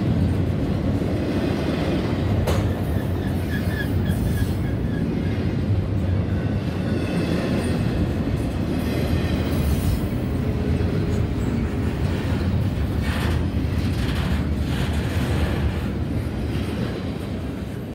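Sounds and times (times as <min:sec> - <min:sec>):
freight train rolling past: 0:00.0 - 0:17.9.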